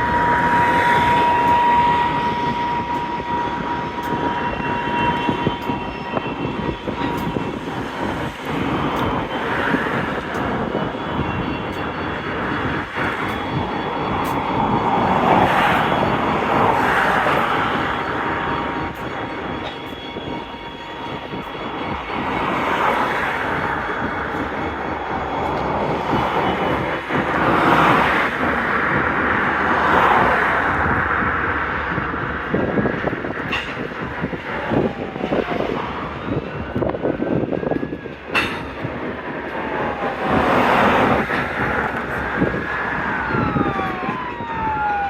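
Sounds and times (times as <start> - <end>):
freight train rumbling: 0.0 - 45.0
wheel squeal: 0.0 - 45.0.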